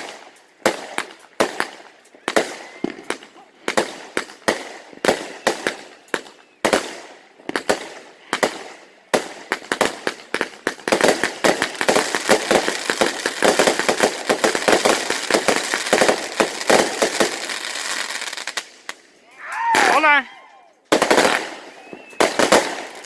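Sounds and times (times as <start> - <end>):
firework bangs: 0.0 - 19.0, 20.9 - 23.0
firework crackling: 0.0 - 20.2, 20.9 - 23.0.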